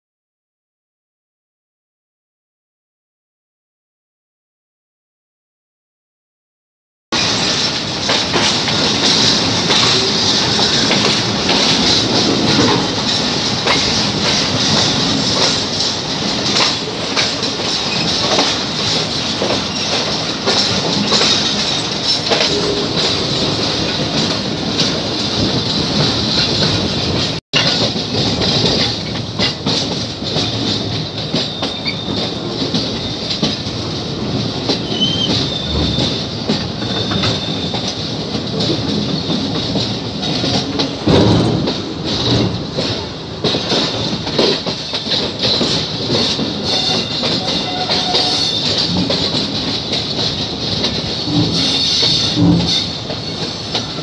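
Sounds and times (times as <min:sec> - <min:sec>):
clickety-clack over rail joints: 0:07.2 - 0:54.0
train wheels rumbling on rails: 0:07.2 - 0:54.0.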